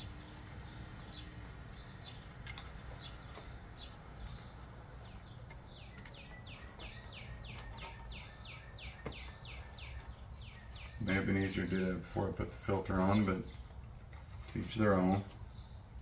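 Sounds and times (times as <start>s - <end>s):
songbird chirping rapidly: 0.0s - 16.0s.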